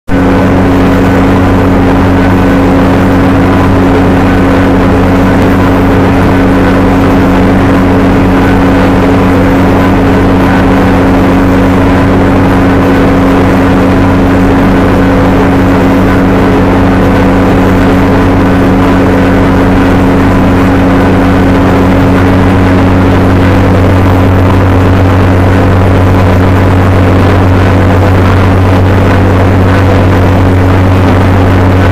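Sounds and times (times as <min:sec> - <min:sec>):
drilling rig engine drone: 0:00.1 - 0:31.9.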